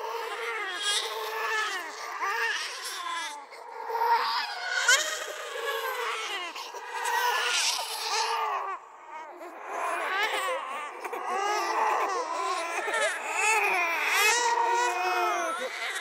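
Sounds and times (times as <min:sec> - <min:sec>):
babies crying: 0:00.0 - 0:16.0.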